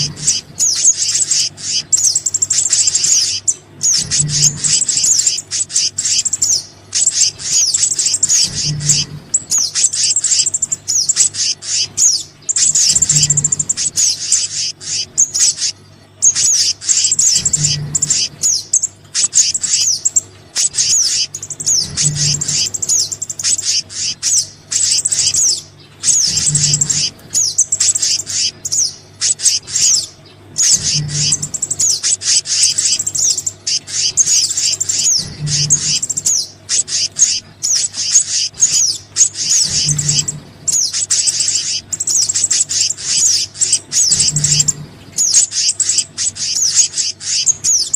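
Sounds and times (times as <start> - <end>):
small birds chirping and twittering: 0.0 - 47.9.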